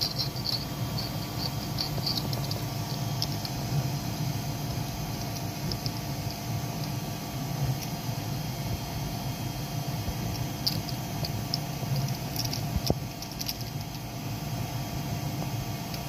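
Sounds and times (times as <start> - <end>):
printer fan hum: 0.0 - 16.0.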